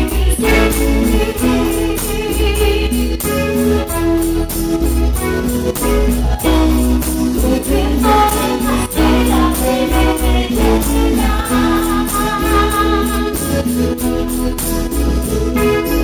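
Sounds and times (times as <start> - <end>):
electronic keyboard melody: 0.0 - 16.0
percussion beat: 0.0 - 16.0
steady bass: 0.0 - 16.0.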